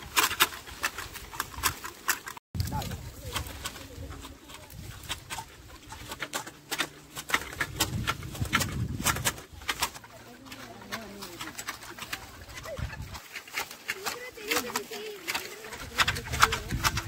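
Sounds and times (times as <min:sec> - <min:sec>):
shears snipping bushes: 0:00.0 - 0:17.0.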